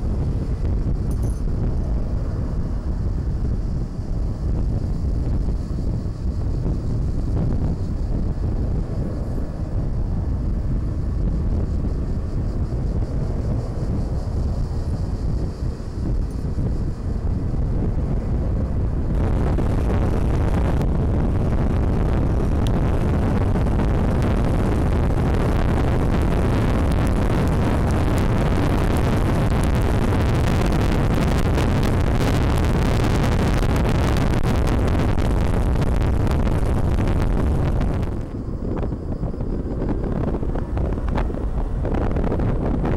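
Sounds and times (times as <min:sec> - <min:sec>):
road noise: 0:00.0 - 0:42.9
wind rushing over microphone: 0:00.0 - 0:42.9.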